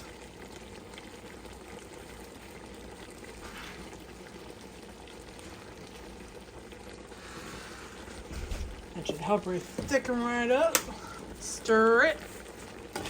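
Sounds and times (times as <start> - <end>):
gravy sizzling in a frying pan: 0.0 - 13.0.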